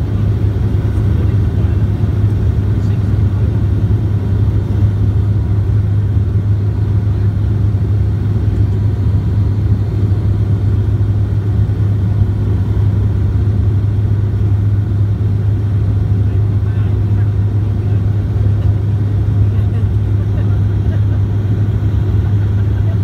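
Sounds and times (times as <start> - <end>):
airplane cabin propeller drone: 0.0 - 23.0.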